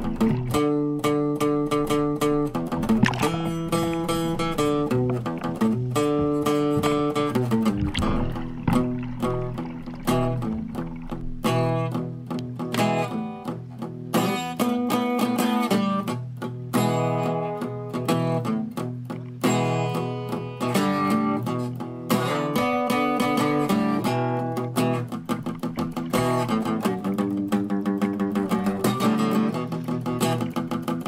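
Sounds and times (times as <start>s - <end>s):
folk acoustic guitar music: 0.0s - 31.0s.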